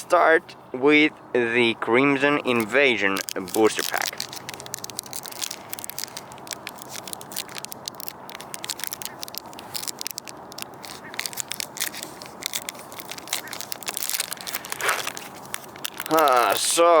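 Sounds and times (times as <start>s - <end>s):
foil wrapper crinkling and tearing: 2.4s - 17.0s.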